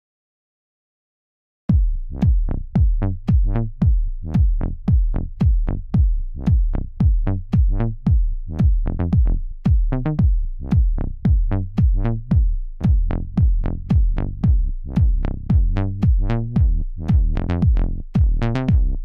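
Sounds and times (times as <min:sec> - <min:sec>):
electronic music with drum-machine beat: 0:01.7 - 0:19.0.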